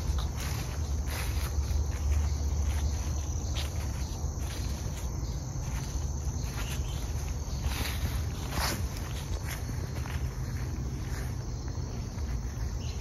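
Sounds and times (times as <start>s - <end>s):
insect chorus chirring: 0.0s - 13.0s.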